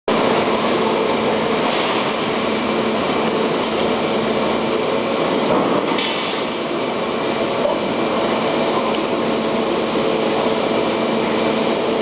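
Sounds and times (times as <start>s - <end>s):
machinery hum and rush: 0.1s - 12.0s.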